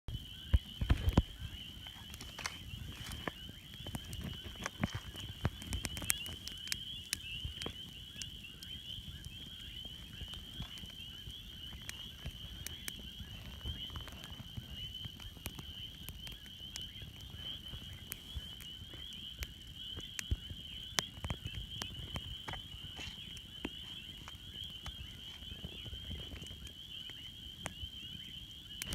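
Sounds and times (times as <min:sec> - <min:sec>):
campfire crackling and popping: 0:00.1 - 0:28.9
night insects chorus: 0:00.1 - 0:28.9.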